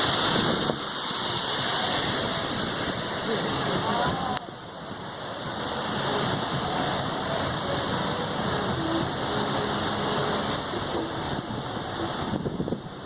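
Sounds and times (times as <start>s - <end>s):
rain: 0.0s - 13.0s
waterfall rushing: 0.0s - 13.0s.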